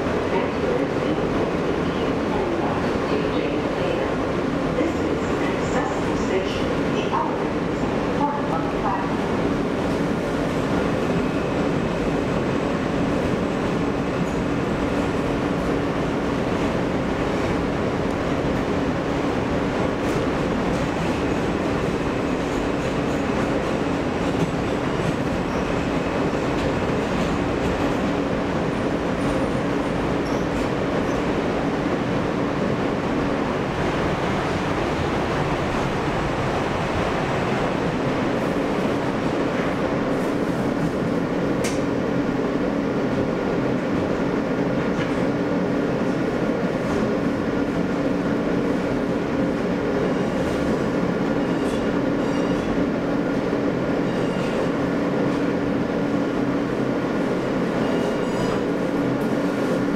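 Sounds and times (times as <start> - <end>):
subway train rumbling in tunnel: 0.0 - 59.9.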